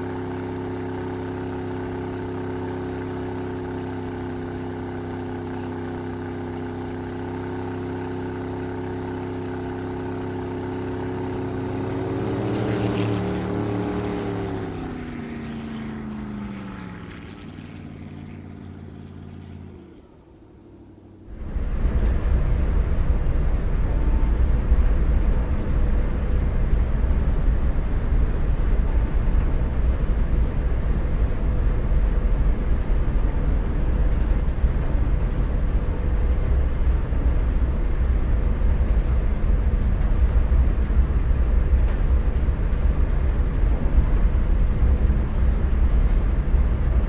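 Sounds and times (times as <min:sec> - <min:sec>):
faint engine tone: 0:00.0 - 0:47.0
motorboat deep rumble: 0:00.0 - 0:47.0.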